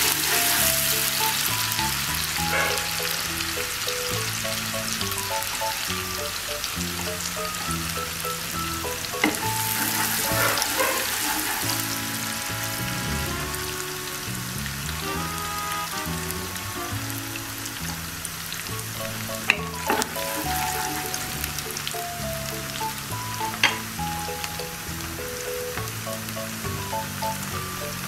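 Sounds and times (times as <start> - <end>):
onions sizzling in oil: 0.0 - 15.1, 16.8 - 28.0
background music: 0.0 - 28.0.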